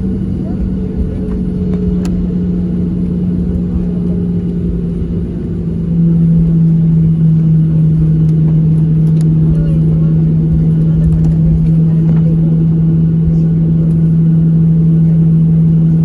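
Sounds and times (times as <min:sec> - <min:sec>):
airplane cabin drone: 0:00.0 - 0:16.0.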